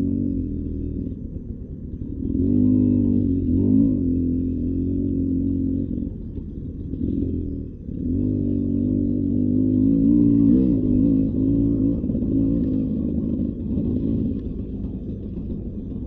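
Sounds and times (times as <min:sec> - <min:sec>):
dirt bike engine revving: 0:02.0 - 0:15.8.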